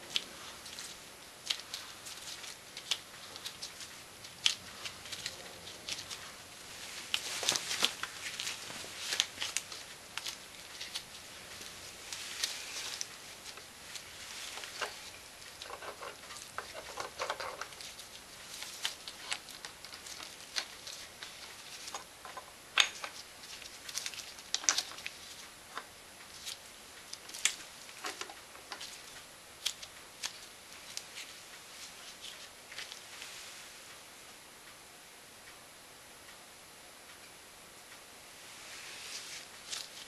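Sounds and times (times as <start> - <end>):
crackly rustle: 0.0 - 34.8, 37.0 - 40.0.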